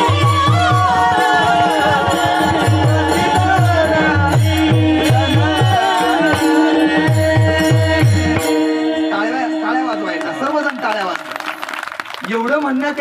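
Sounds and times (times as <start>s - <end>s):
person singing devotional tune: 0.0s - 10.6s.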